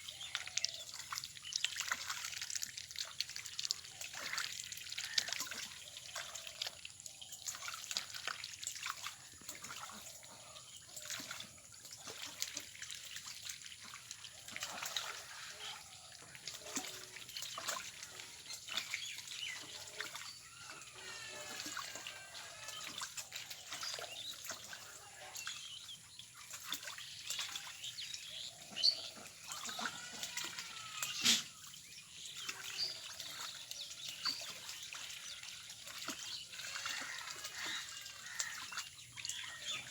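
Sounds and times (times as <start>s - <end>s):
ducks splashing in water: 0.0s - 39.9s
water trickling: 0.0s - 39.9s.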